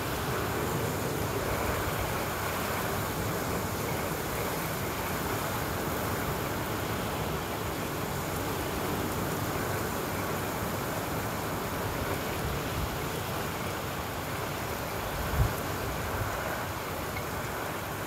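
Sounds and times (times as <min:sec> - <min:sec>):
heavy driving rain: 0:00.0 - 0:18.0.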